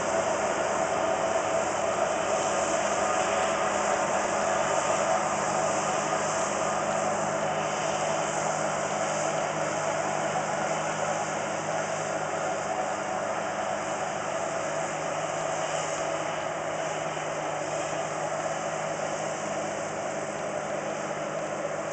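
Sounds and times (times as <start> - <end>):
combine harvester whirring: 0.0 - 21.9.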